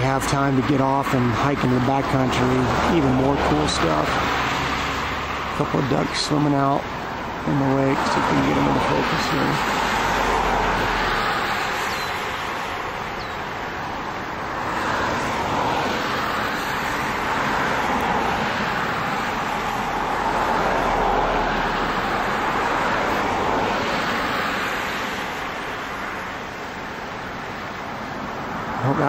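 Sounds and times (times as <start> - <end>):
highway traffic rushing: 0.0 - 29.0.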